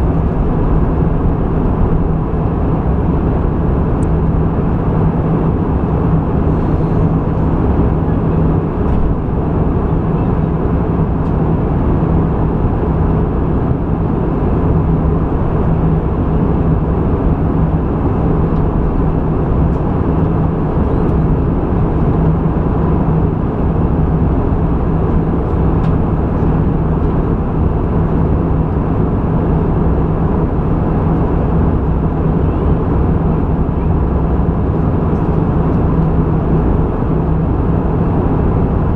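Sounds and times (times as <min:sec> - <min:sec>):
engine and airflow rush: 0:00.0 - 0:38.9
steady low hum: 0:00.0 - 0:38.9.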